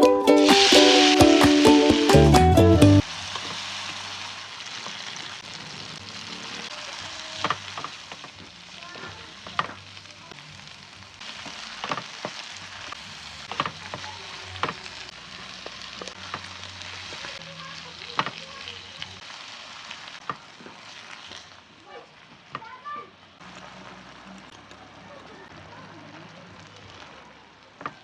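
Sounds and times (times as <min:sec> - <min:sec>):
eggs and vegetables sizzling in oil: 0:00.0 - 0:28.0.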